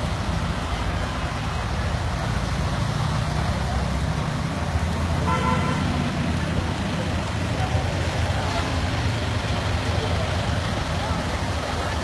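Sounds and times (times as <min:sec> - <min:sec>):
heavy rain splashing on pavement: 0:00.0 - 0:12.0.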